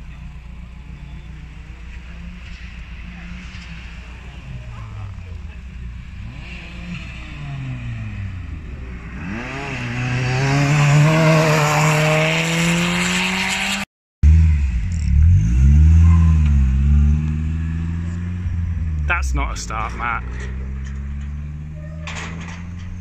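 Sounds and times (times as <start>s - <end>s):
car engine revving at low revs: 0.0s - 21.8s
car engine accelerating hard: 0.8s - 21.8s.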